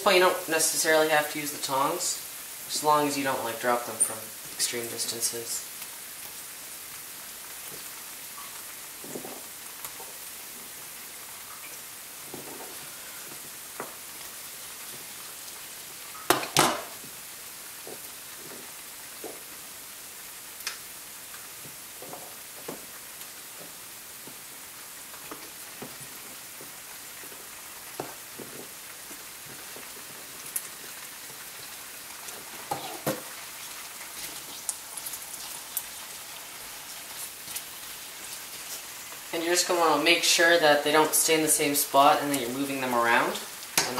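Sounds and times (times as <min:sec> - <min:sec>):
potatoes sizzling in oil: 0:00.0 - 0:43.9.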